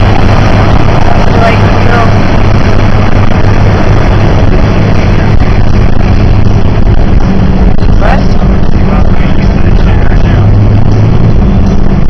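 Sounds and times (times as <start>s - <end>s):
low engine drone: 0.0s - 12.0s
road and tyre noise: 0.0s - 12.0s.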